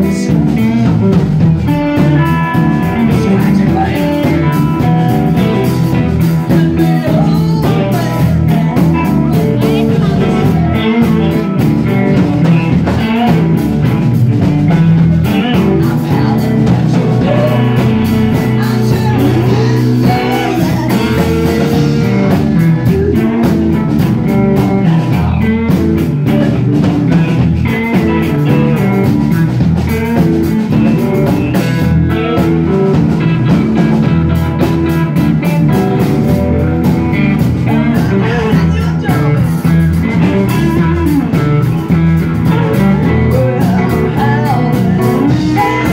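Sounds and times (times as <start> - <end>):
bass guitar: 0.0 - 45.9
drum kit: 0.0 - 45.9
electric guitar: 0.0 - 45.9.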